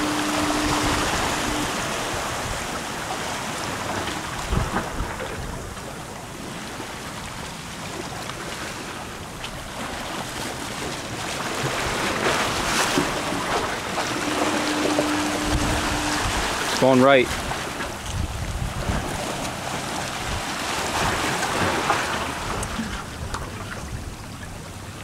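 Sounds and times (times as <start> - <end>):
wind buffeting microphone: 0.0 - 6.8, 9.2 - 25.0.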